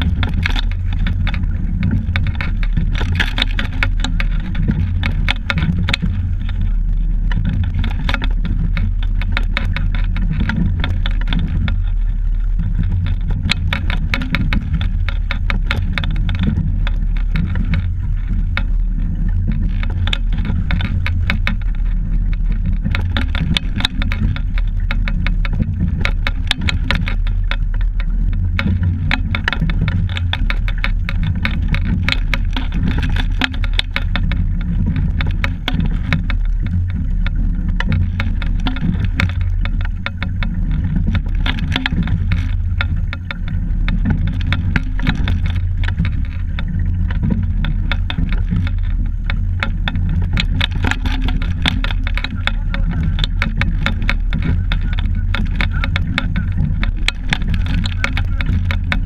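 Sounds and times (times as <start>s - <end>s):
clicking and rattling: 0.0s - 59.0s
wind and water rumble: 0.0s - 59.0s.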